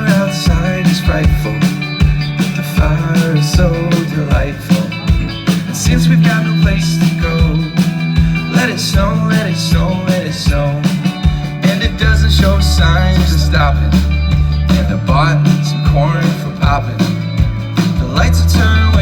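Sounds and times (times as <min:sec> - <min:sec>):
live pop band playing: 0:00.0 - 0:19.0
steady drum beat: 0:00.0 - 0:19.0.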